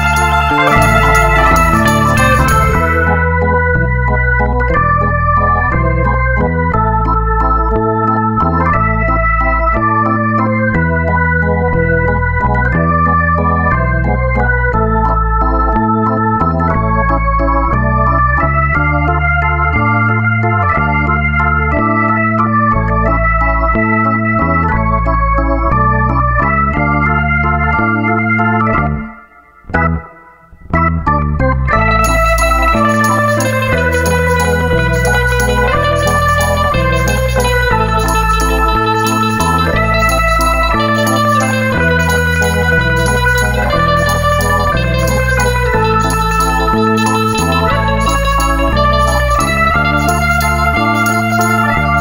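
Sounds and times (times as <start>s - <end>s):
organ-like keyboard music: 0.0s - 52.0s.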